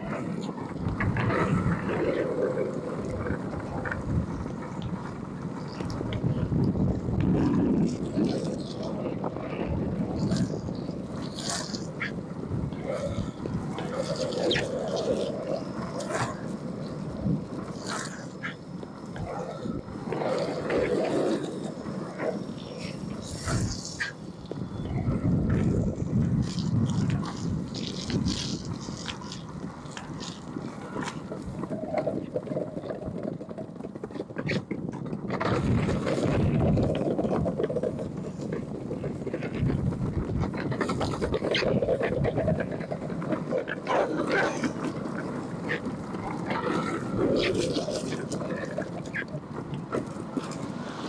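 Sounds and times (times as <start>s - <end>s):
wheels rolling on wet asphalt: 0.0s - 51.0s.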